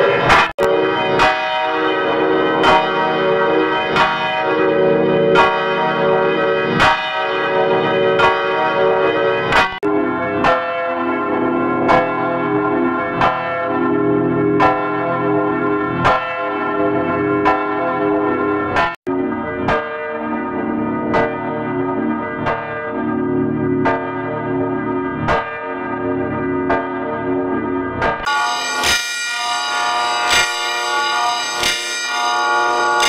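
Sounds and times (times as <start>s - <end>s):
church bell tolling: 0.0s - 33.0s.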